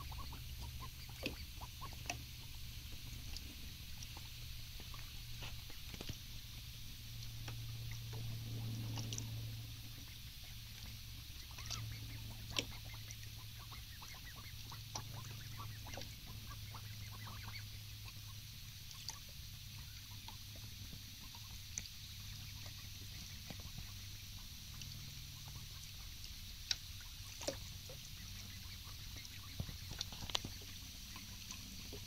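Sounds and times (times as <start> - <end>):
ducks quacking: 0.0 - 32.0
steady low rumble: 0.0 - 32.0.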